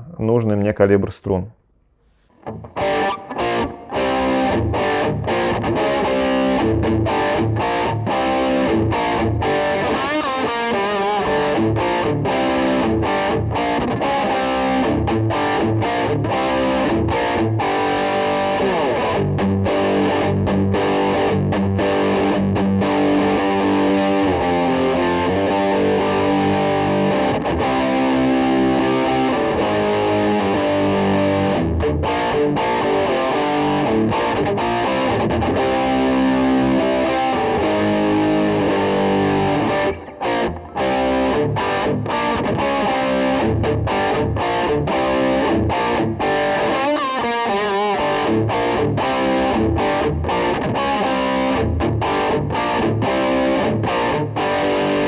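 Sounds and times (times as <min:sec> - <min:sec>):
distorted electric guitar: 0:02.1 - 0:55.0.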